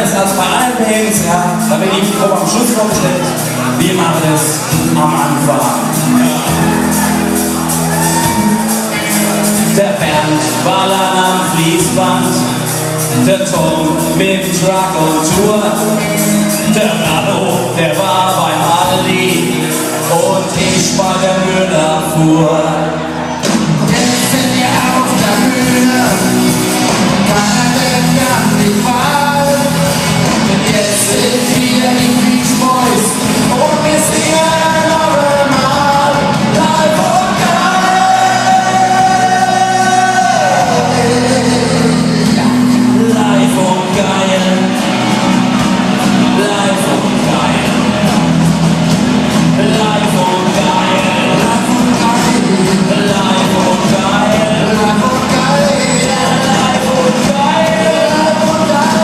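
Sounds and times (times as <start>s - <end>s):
man singing: 0.0s - 7.3s, 7.9s - 48.4s, 49.2s - 59.0s
rock and roll band playing: 0.0s - 59.0s.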